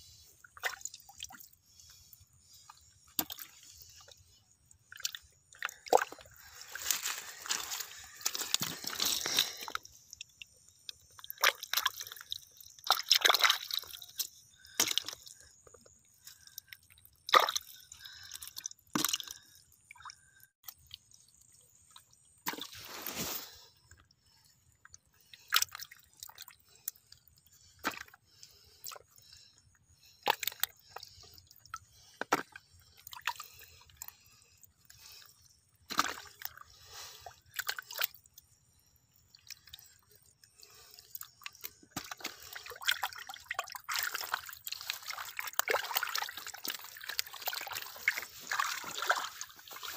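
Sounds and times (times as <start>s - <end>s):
wet mud squelches and splashes: 0.0s - 49.9s.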